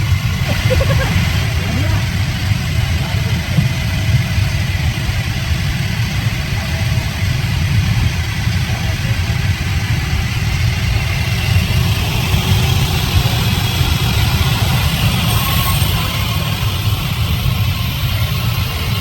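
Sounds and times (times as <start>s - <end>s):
sawmill machinery rumbling: 0.0s - 19.0s.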